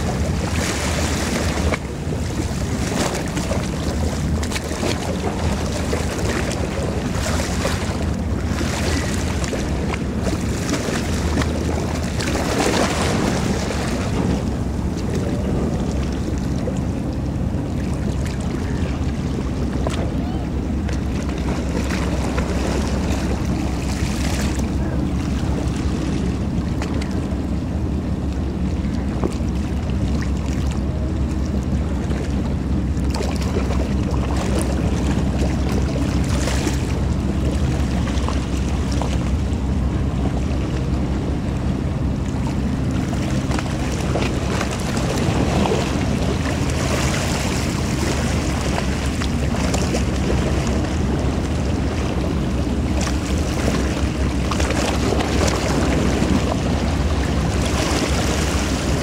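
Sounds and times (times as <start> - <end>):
water washing along hull: 0.0 - 59.0.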